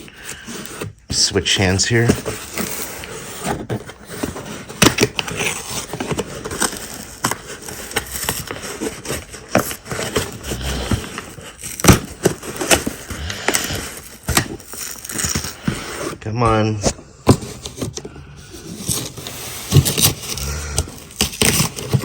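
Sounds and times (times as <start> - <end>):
cardboard box scraping and crackling: 0.0 - 22.0.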